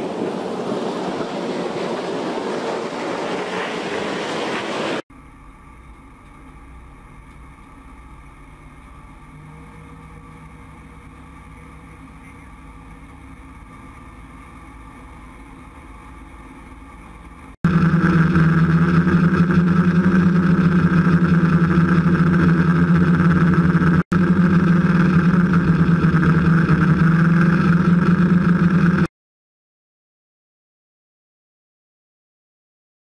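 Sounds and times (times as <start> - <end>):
boat diesel engine drone: 0.0 - 29.1.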